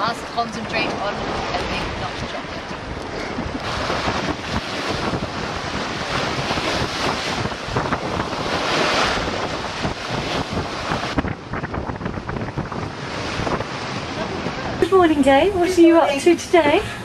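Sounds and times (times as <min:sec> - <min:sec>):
rushing water: 0:00.0 - 0:17.0
rushing wind: 0:00.0 - 0:17.0.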